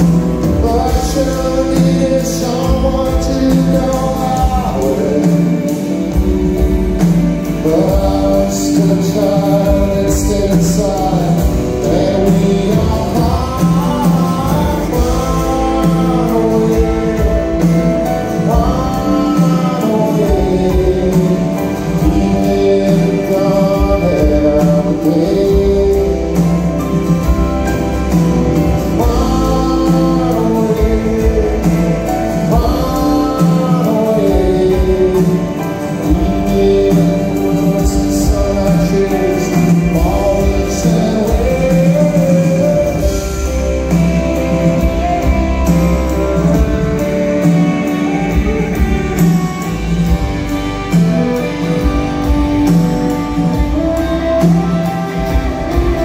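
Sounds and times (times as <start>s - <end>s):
acoustic guitar: 0.0s - 56.0s
drums: 0.0s - 56.0s
electric guitar: 0.0s - 56.0s
keyboard: 0.0s - 56.0s
male lead vocal: 0.0s - 56.0s.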